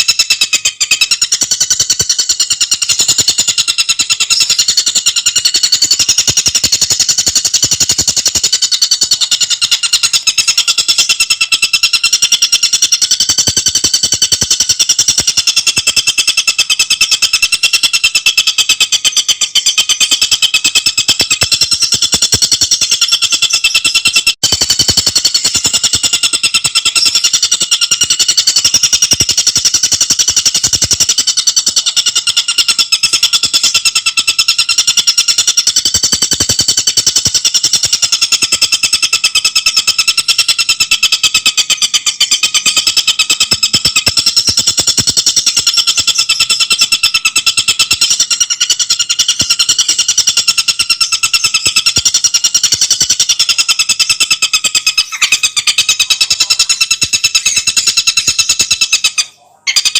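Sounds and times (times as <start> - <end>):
bird singing rattling trill: 0.0 - 59.9.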